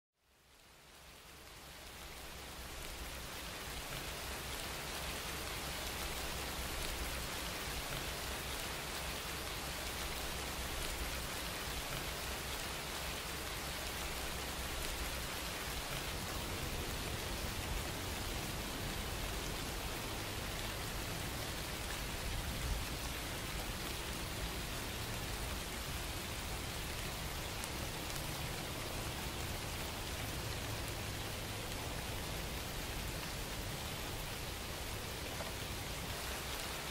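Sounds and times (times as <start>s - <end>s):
rain-like hiss: 0.2s - 36.9s.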